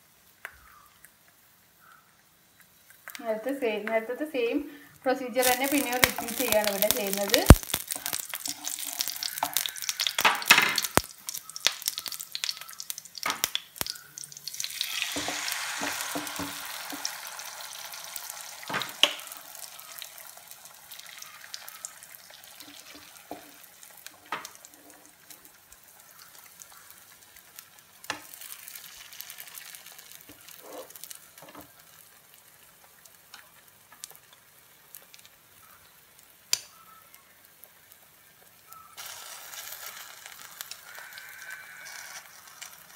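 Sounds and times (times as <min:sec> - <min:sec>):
batter frying in pan: 0:00.0 - 0:04.0, 0:05.3 - 0:42.9.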